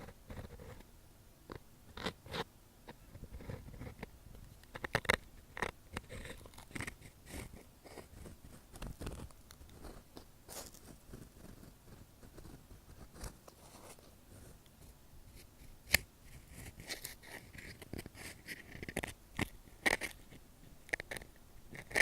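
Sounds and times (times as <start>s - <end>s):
ear pick scraping and tapping: 1.5s - 22.0s.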